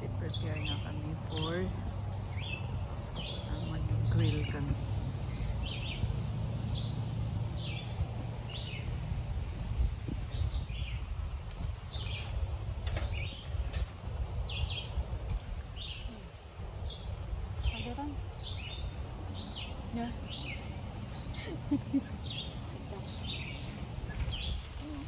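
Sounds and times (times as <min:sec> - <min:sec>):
wind rumble on microphone: 0:00.0 - 0:25.0
songbirds calling: 0:00.1 - 0:25.0.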